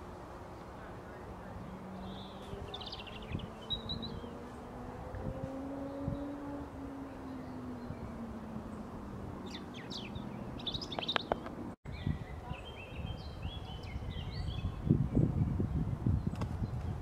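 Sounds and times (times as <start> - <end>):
robin singing: 0.1 - 17.0.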